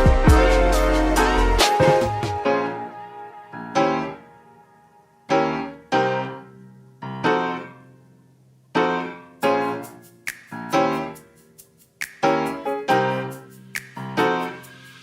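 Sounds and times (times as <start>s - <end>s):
slow piano chords: 0.0s - 11.5s, 12.2s - 15.0s.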